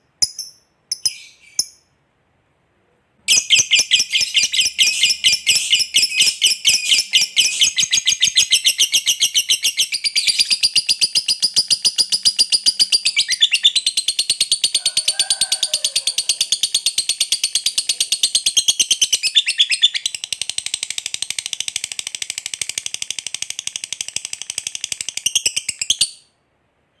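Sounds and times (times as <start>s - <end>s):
lovebird chattering: 3.3s - 26.1s.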